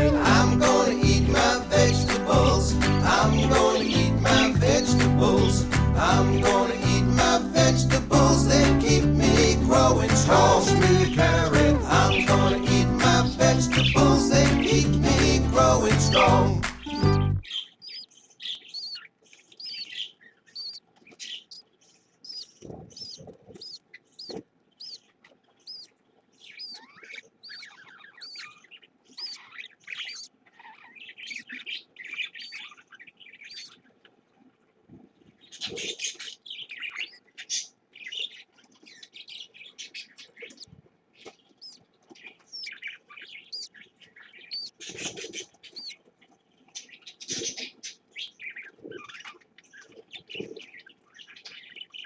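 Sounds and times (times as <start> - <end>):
budgerigars chirping: 0.0 - 21.6, 22.2 - 33.8, 35.4 - 46.0, 46.8 - 52.0.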